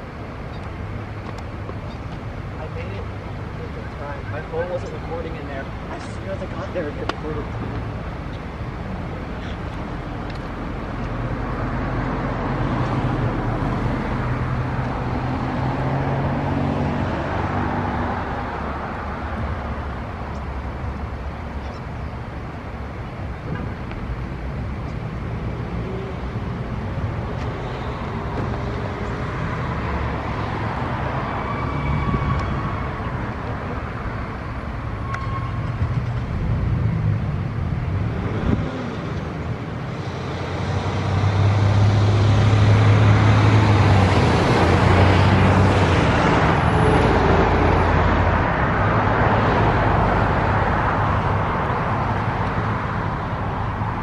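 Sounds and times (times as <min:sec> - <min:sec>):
vehicles going by: 0:00.0 - 0:54.0.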